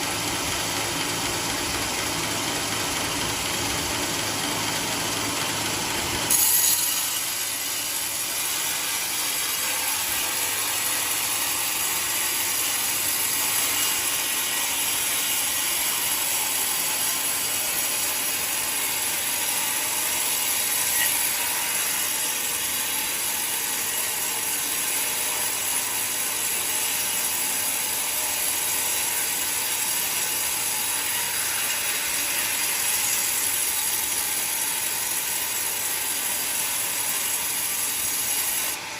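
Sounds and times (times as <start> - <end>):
sawmill cutting a log: 0.0 - 38.9.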